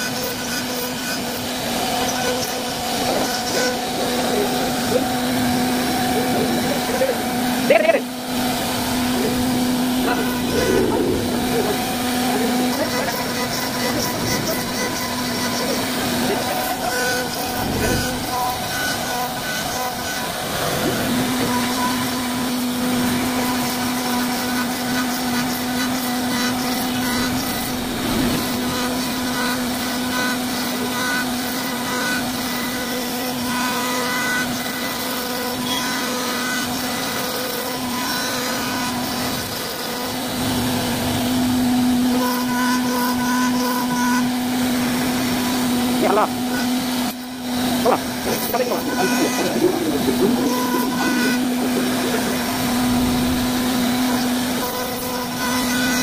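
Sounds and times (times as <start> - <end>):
hiss of bit cutting wood: 0.0 - 56.0
router spindle humming: 0.0 - 56.0.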